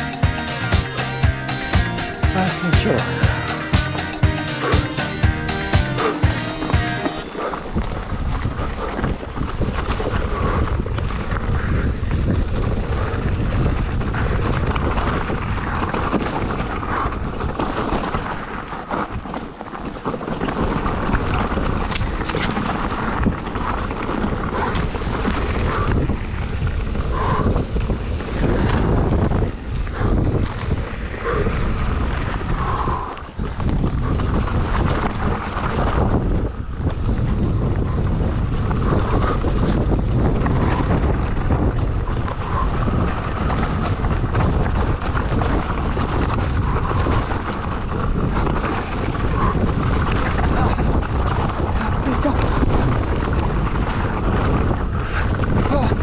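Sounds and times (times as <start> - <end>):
mountain bike rattling: 0.0 - 56.0
wind buffeting microphone: 4.2 - 56.0.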